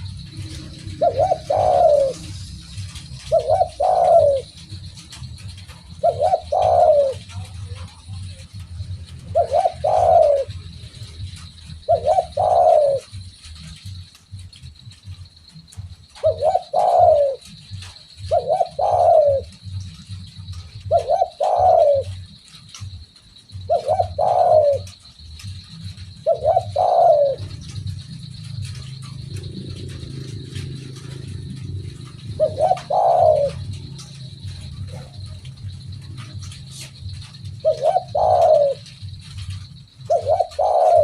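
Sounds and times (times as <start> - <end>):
dove cooing: 0.0 - 41.0
steady high hiss: 0.0 - 41.0.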